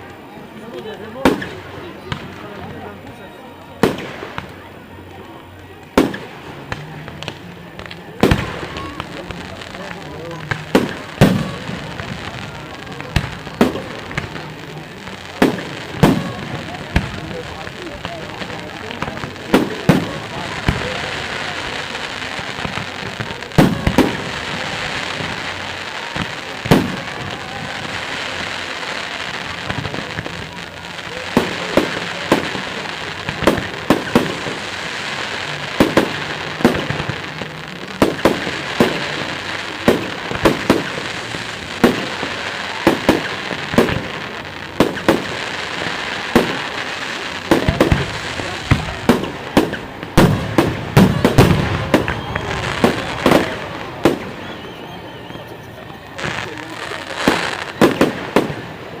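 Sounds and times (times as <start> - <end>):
crackling hiss: 0.0 - 59.0.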